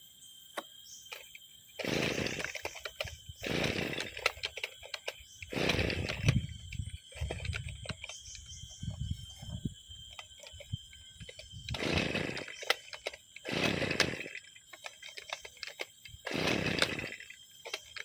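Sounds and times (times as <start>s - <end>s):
brushcutter engine spluttering: 1.1s - 8.4s, 10.1s - 18.0s.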